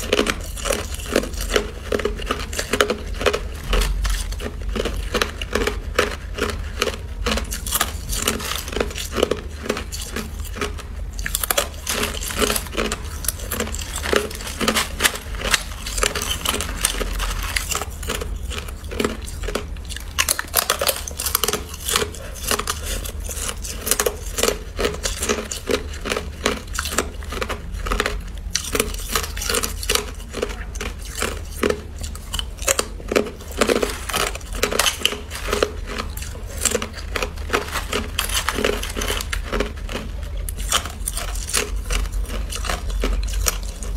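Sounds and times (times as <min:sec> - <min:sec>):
ice crunching in mouth: 0:00.0 - 0:43.9.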